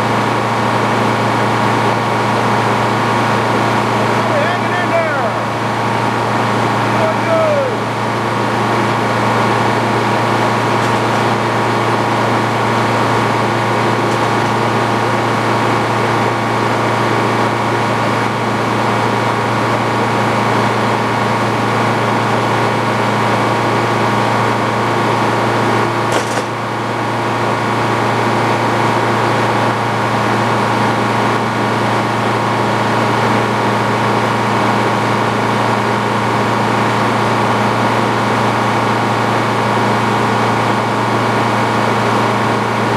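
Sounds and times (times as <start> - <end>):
sawmill machine drone: 0.0 - 42.9.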